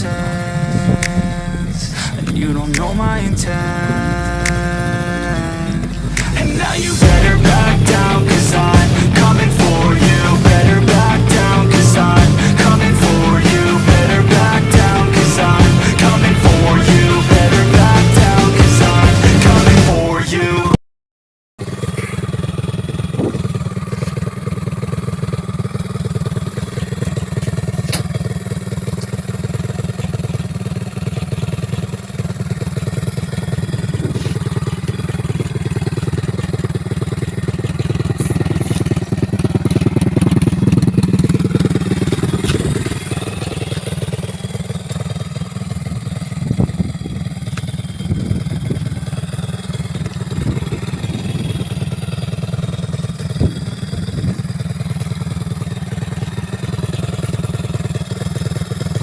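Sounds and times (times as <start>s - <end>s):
motorcycle engine running: 0.0s - 20.7s, 21.6s - 59.0s.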